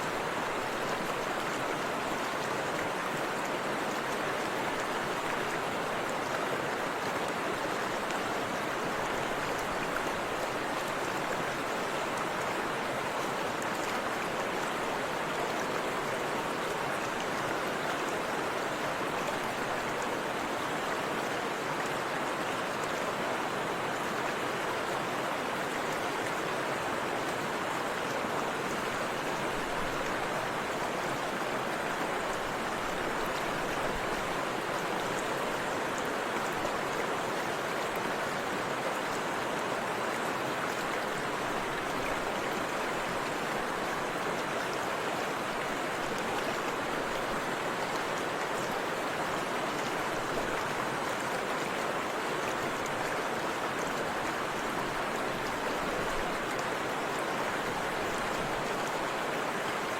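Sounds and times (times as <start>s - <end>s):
river and waterfall rushing: 0.0s - 59.9s.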